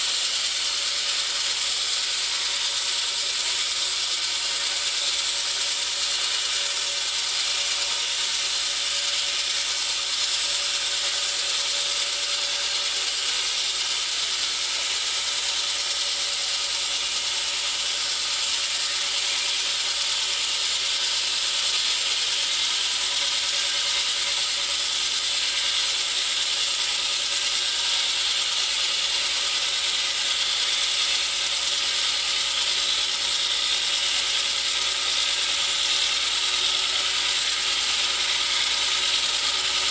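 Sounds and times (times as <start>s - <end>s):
saw blade grinding concrete: 0.0s - 39.9s.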